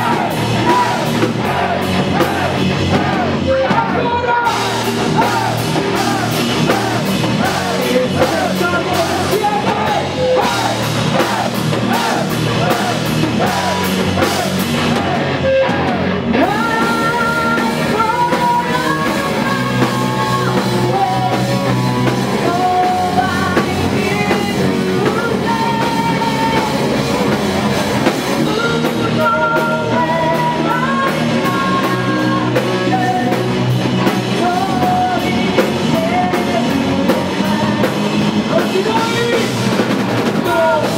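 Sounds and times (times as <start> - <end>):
distorted electric guitars: 0.0 - 40.9
drum kit pounding: 0.0 - 40.9
sung lead vocals: 0.0 - 40.9.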